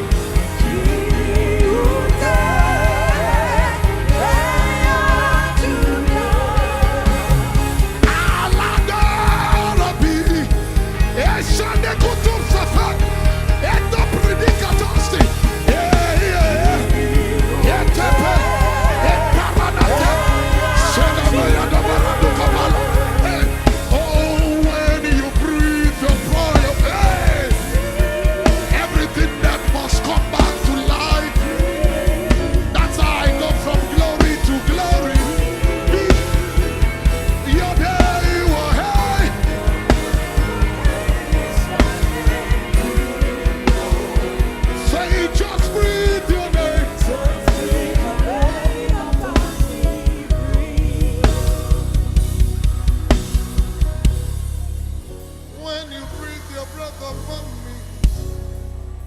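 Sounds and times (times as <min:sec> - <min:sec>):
drum and bass beat: 0:00.0 - 0:55.3
sliding melodic line: 0:00.0 - 0:57.9
live worship band music: 0:00.0 - 0:59.0.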